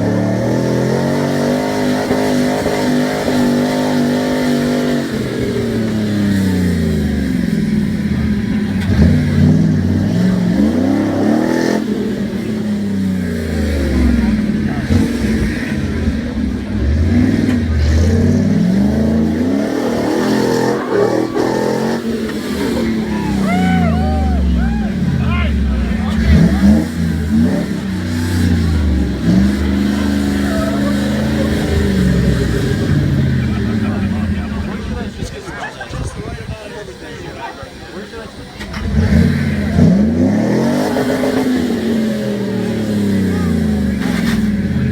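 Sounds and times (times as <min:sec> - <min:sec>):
pickup truck engine revving: 0:00.0 - 0:44.9.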